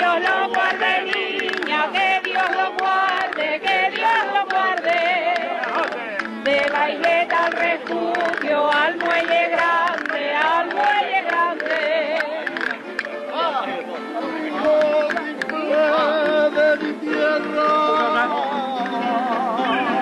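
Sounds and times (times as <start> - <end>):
men singing in chorus: 0.0 - 12.7, 14.3 - 20.0
strummed acoustic guitars: 0.0 - 20.0.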